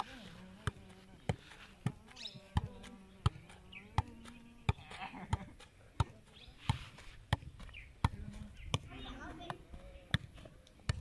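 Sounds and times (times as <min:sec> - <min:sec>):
football thudding on foot: 0:00.6 - 0:11.0.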